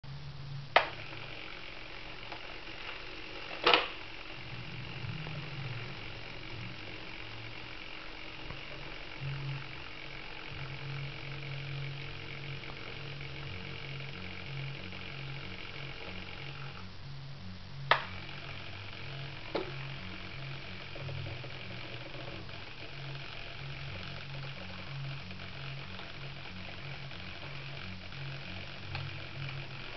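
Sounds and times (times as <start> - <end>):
servo whine with low buzz: 0.0 - 29.9.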